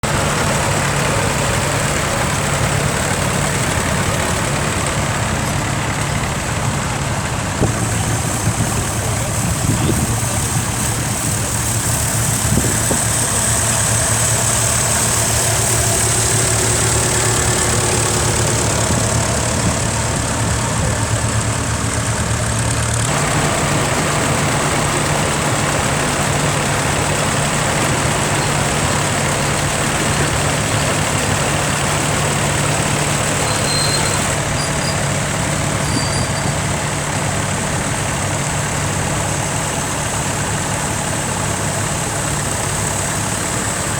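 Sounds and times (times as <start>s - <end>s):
tractor engines running: 0.0s - 43.9s.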